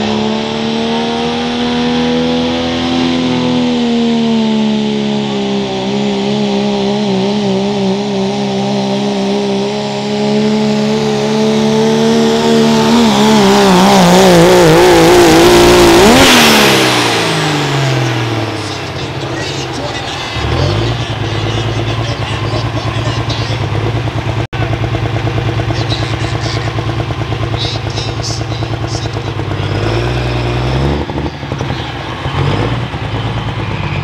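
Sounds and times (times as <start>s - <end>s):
diesel truck engine at high revs: 0.0s - 34.0s.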